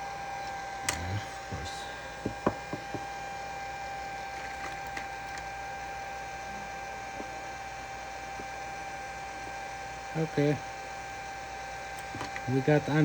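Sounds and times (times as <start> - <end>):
hot air tool blowing with whine: 0.0 - 13.0.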